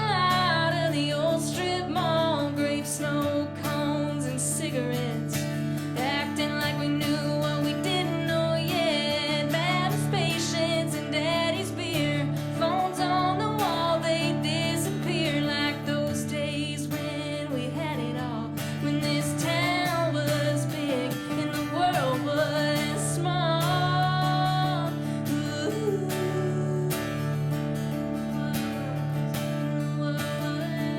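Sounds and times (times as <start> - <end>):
strummed acoustic guitar: 0.0 - 30.9.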